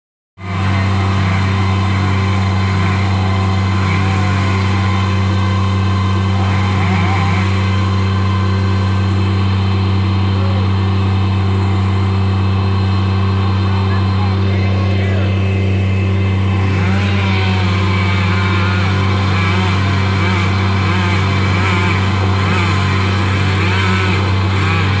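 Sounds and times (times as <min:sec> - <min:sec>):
diesel engine droning: 0:00.4 - 0:25.0.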